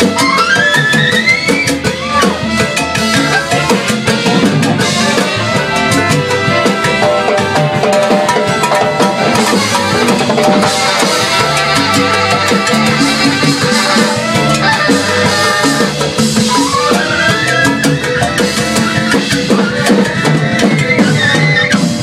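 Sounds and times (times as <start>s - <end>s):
drum kit and percussion beat: 0.0s - 22.0s
live band playing latin music: 0.0s - 22.0s.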